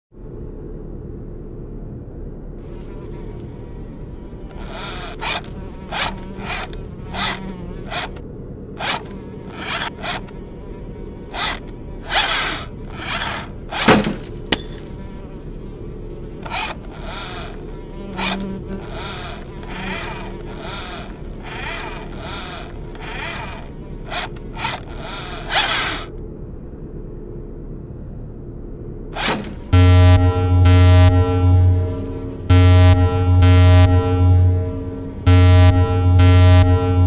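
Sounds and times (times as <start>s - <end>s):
steady low hum: 0.1s - 37.0s
housefly buzzing: 2.6s - 8.2s, 8.8s - 26.1s, 29.2s - 37.0s.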